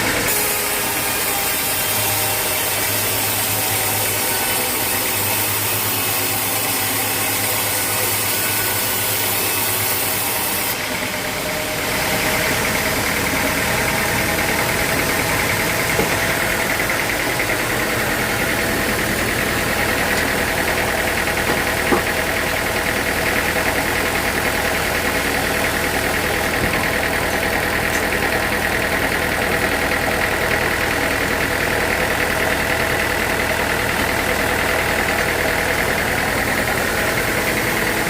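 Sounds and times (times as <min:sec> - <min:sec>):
sawmill machinery drone: 0:00.0 - 0:38.0.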